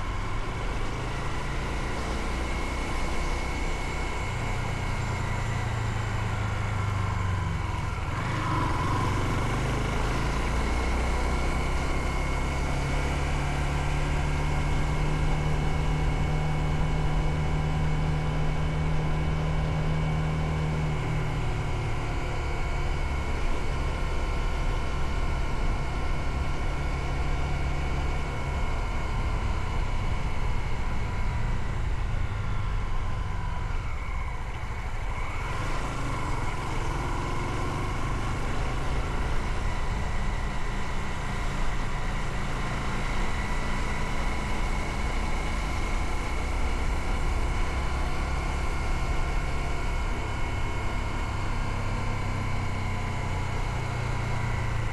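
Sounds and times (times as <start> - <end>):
motorcycle engine running: 0.0 - 54.9
road noise: 0.0 - 54.9.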